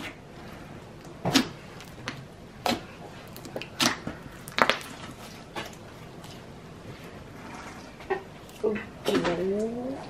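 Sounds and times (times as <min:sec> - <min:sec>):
slime squelching: 0:00.0 - 0:10.0.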